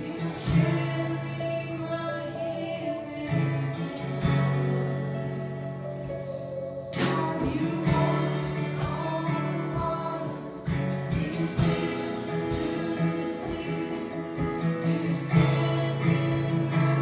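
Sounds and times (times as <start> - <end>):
person singing: 0.0 - 17.0
strummed acoustic guitar: 0.0 - 17.0.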